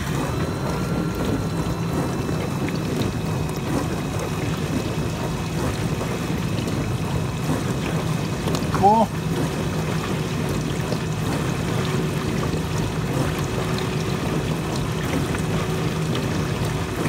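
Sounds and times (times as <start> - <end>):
low hum: 0.0 - 17.0
water rushing inside dishwasher: 0.0 - 17.0.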